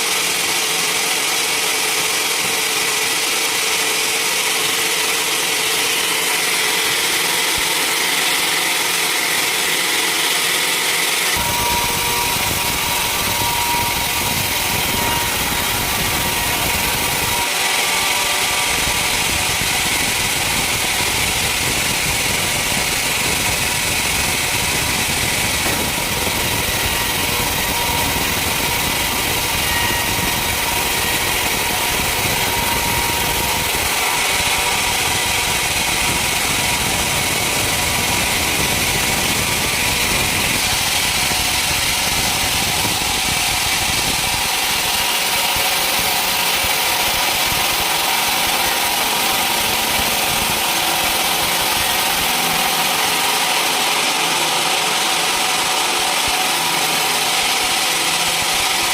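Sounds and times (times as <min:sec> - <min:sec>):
sawmill saw running: 0:00.0 - 0:58.9.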